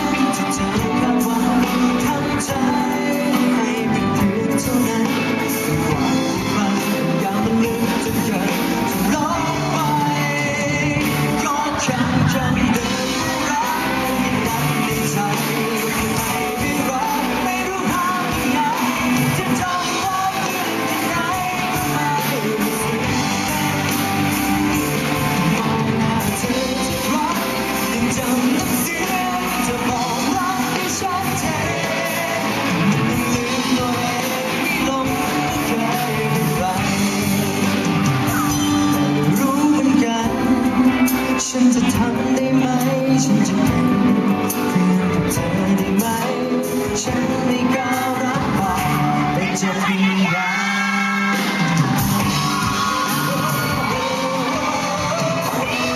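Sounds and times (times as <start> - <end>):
live band music: 0.0 - 55.9
person singing pop song: 0.0 - 55.9.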